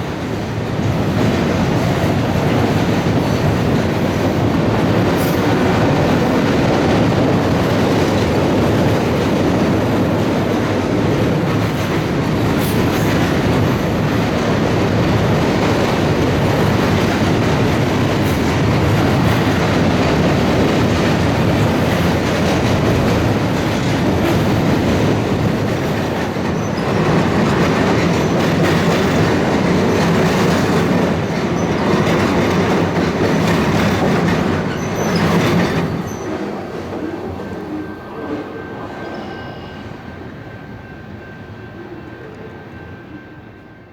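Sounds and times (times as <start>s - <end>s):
rail clicks: 0.0s - 40.4s
train wheels rumbling on rail: 0.0s - 43.9s.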